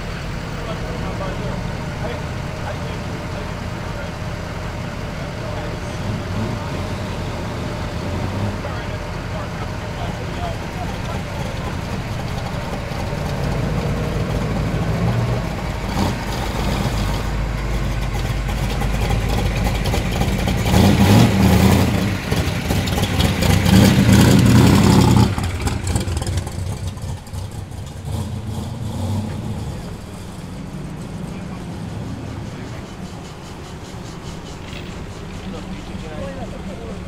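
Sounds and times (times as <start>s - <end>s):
car engines driving past: 0.0s - 37.0s
loud car engine revving: 0.0s - 37.0s.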